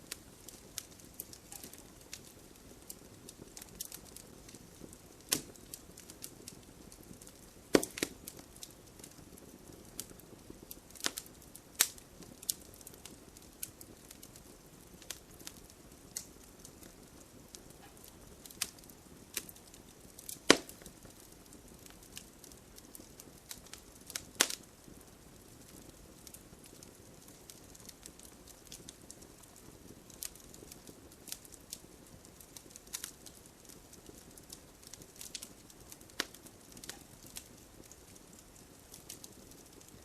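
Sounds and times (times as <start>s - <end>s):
campfire crackling: 0.0s - 40.0s
fire soft hiss: 0.0s - 40.0s.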